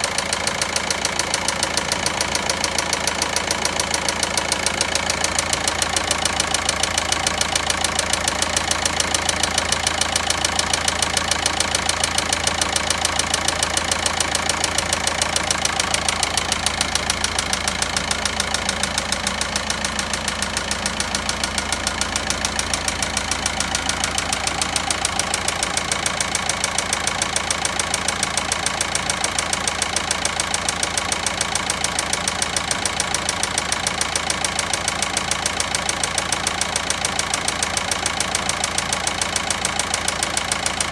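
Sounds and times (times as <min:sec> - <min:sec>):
diesel engine knocking clatter: 0:00.0 - 0:40.9.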